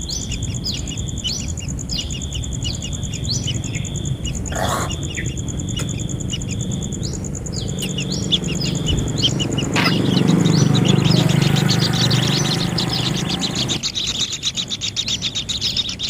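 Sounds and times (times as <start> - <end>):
birds chirping: 0.0 - 16.0
insect ticking: 0.0 - 16.0.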